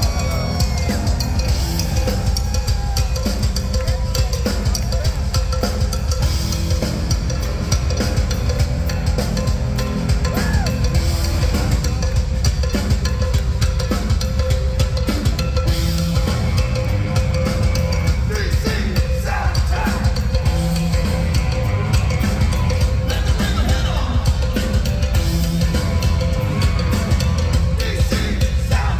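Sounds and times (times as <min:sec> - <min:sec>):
hard rock band playing live: 0:00.0 - 0:28.9.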